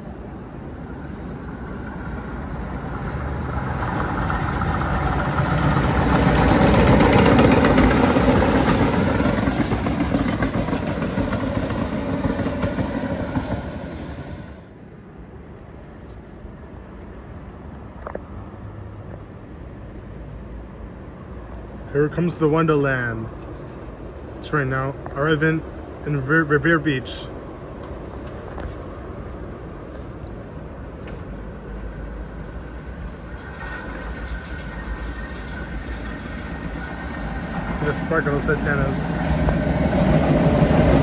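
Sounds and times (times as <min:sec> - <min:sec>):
subway train passing: 0:00.0 - 0:41.0.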